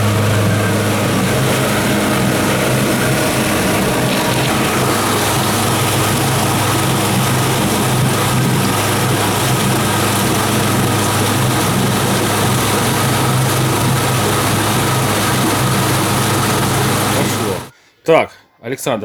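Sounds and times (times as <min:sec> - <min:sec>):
outboard motor running: 0:00.0 - 0:17.7
water and air rushing: 0:00.0 - 0:17.7.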